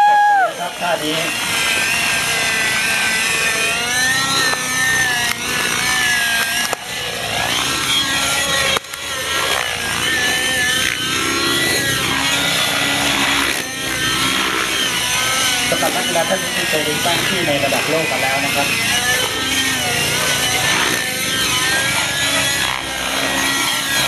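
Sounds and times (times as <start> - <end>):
model helicopter rotor whine: 0.0 - 24.0.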